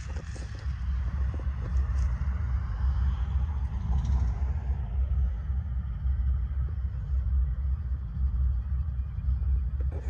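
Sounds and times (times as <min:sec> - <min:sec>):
freight train rumbling past: 0:00.6 - 0:09.7.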